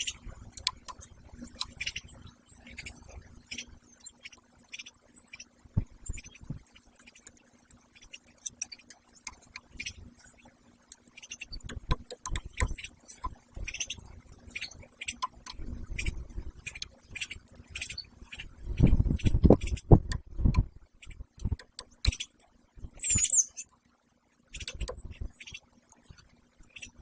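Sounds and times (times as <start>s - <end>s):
woodpeckers pecking on wood: 0.0s - 22.5s, 24.5s - 27.0s.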